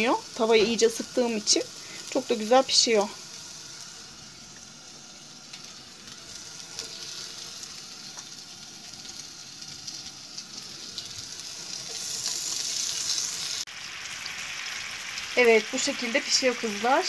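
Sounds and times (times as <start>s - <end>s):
meat patties sizzling in a pan: 0.0s - 17.0s.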